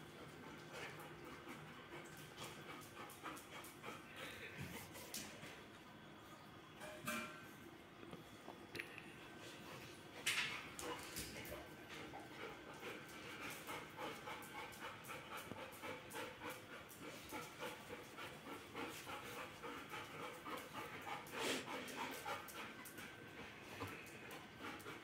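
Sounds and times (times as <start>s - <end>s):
dog panting: 0.0s - 5.6s, 9.5s - 25.0s.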